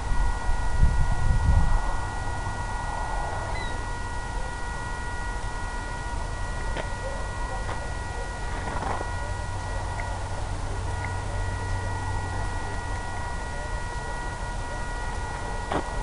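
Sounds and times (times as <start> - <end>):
electronic hiss and hum: 0.0 - 16.0
thin high steady tones: 0.0 - 16.0.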